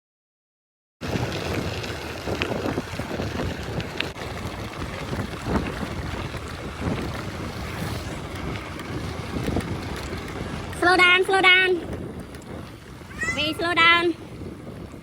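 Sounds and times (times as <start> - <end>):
wind buffeting microphone: 1.0 - 15.0.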